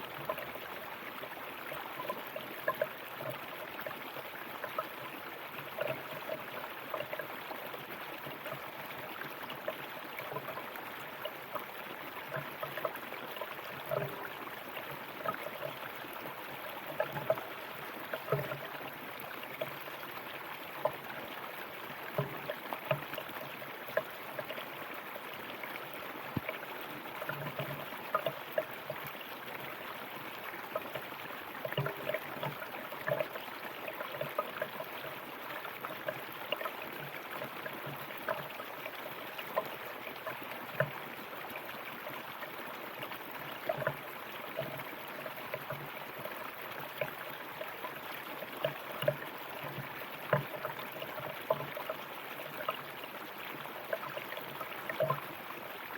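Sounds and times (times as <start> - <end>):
water gurgles and splashes: 0.0 - 55.9.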